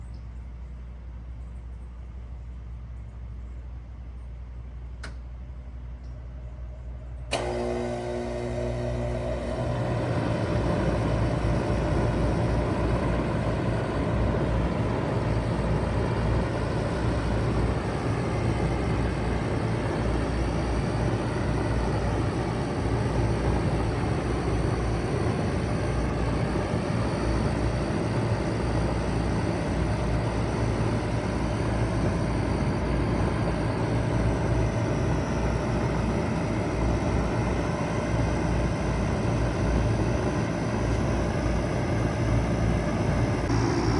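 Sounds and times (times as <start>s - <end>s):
compressor humming: 4.9s - 43.9s
fan rushing: 7.2s - 43.9s.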